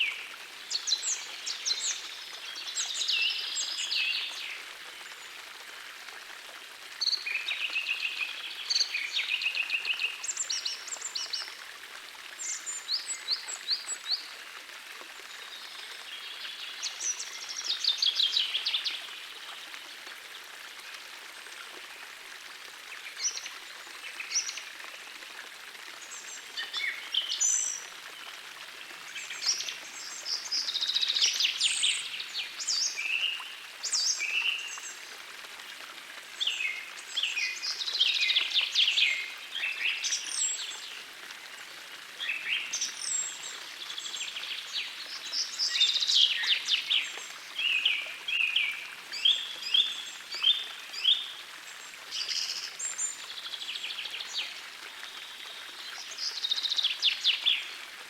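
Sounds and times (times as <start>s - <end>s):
gentle stream hissing: 0.0s - 58.0s.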